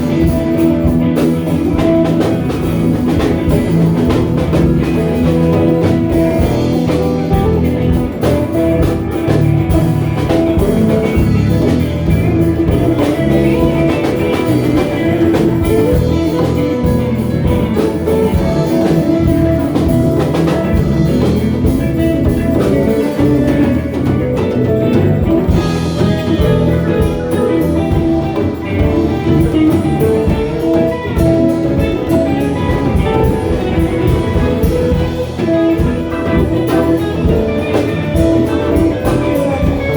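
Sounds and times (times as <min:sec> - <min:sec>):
instrumental band playing: 0:00.0 - 0:39.9
lead guitar: 0:00.0 - 0:39.9.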